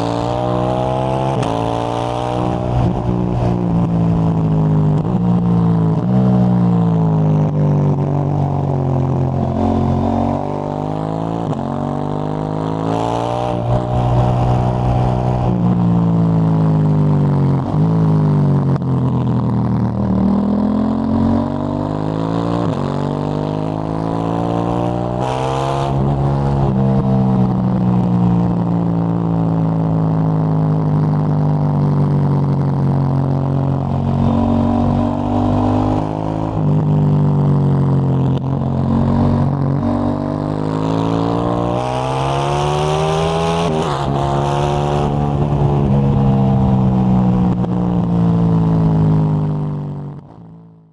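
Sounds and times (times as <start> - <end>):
motorcycle engine revving: 0.0 - 50.5.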